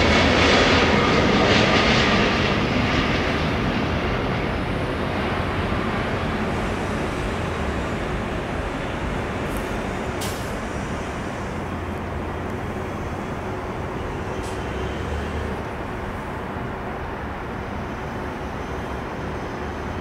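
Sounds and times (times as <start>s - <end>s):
distant jet engine roar: 0.0s - 20.0s
low traffic rumble: 0.0s - 20.0s.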